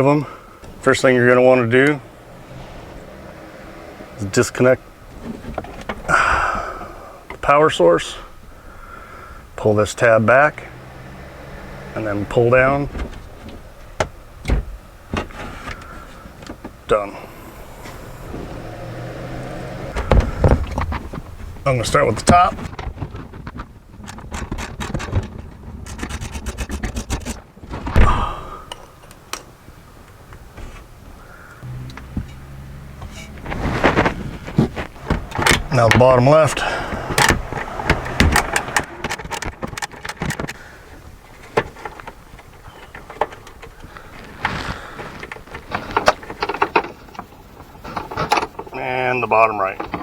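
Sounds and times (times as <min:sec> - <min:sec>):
rustle of movement: 0:00.0 - 0:50.0.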